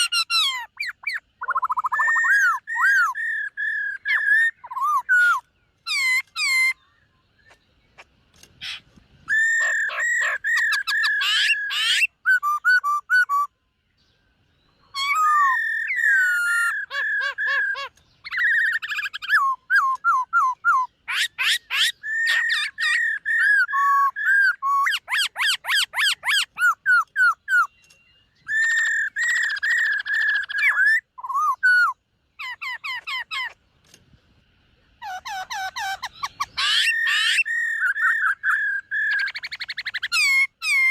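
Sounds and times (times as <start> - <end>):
bird singing whistled phrases: 0.0 - 7.6, 9.3 - 13.5, 14.7 - 33.6, 35.0 - 40.9.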